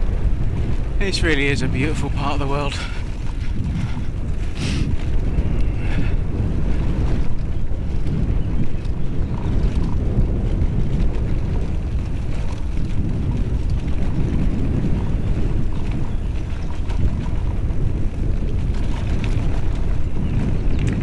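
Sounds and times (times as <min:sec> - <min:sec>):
bike tyres rolling on dirt: 0:00.0 - 0:21.0
mountain bike rattling: 0:00.0 - 0:21.0
wind rumble on microphone: 0:00.0 - 0:21.0.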